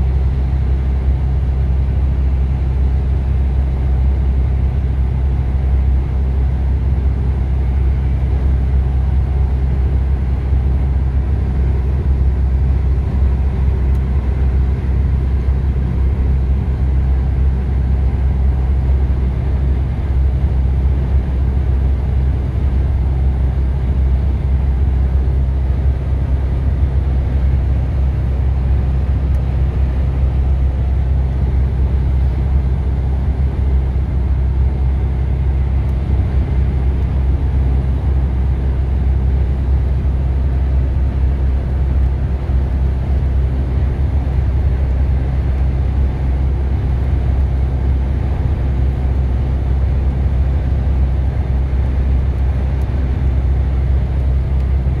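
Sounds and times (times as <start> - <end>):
engine and road noise rumble: 0.0 - 55.0.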